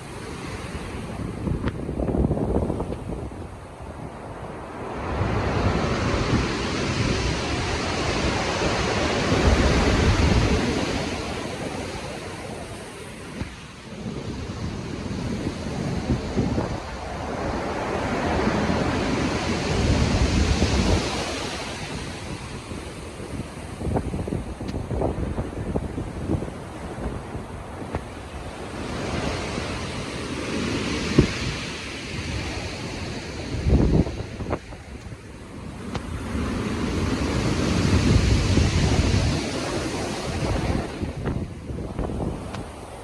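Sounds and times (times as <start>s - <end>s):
stormy waves breaking: 0.0s - 43.0s.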